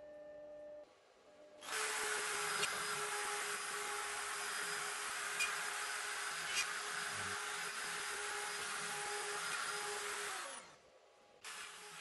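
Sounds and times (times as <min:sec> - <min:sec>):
rotary tool spindle whining: 0:01.6 - 0:10.8, 0:11.5 - 0:12.0.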